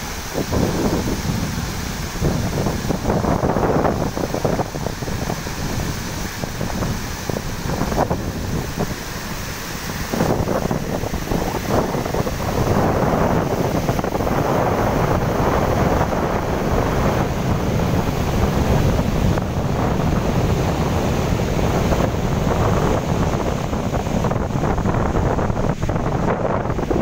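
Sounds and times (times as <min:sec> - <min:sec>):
waterfall rushing: 0:00.0 - 0:27.0
wind buffeting microphone: 0:00.0 - 0:27.0.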